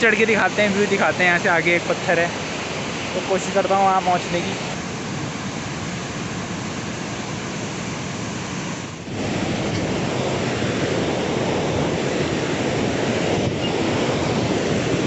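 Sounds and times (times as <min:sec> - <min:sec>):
whitewater rushing: 0:00.0 - 0:15.0.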